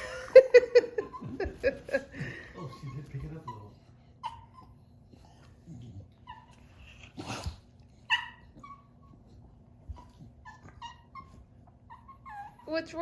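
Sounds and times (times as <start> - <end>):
dog whimpering: 0.8 - 13.0.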